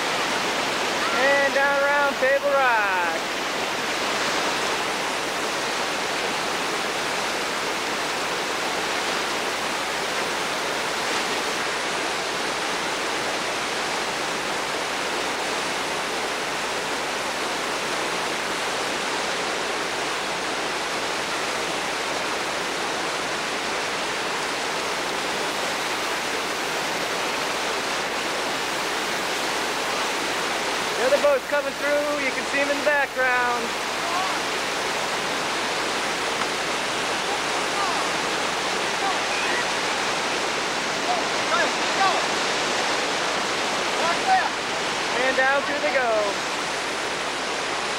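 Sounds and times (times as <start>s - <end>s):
whitewater rushing over boulders: 0.0s - 47.9s.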